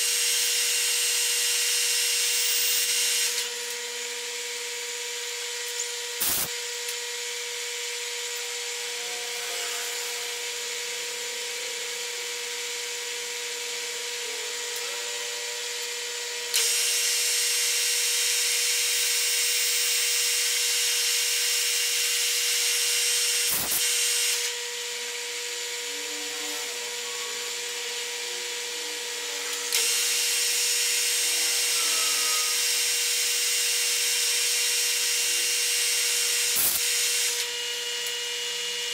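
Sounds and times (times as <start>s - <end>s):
drill cutting hiss: 0.0s - 38.9s
metal lathe whining: 0.0s - 38.9s.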